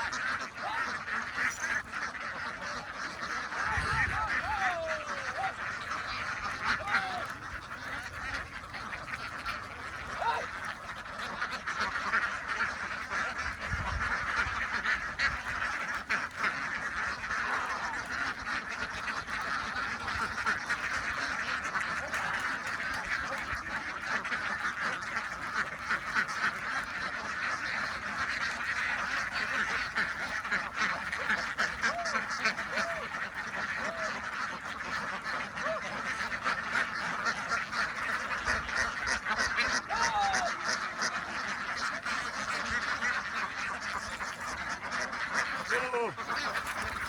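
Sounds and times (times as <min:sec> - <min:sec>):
flock of ducks quacking: 0:00.0 - 0:47.0.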